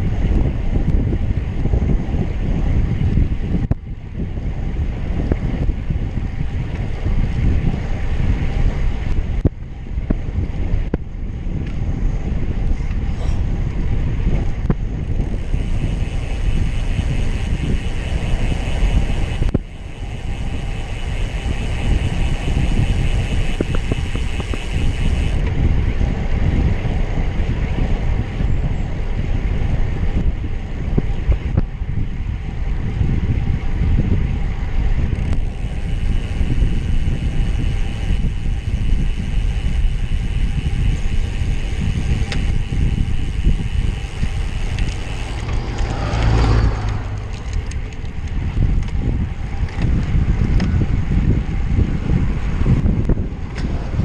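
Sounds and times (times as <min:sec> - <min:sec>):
road and tyre noise: 0:00.0 - 0:54.0
wind buffeting microphone: 0:00.0 - 0:54.0.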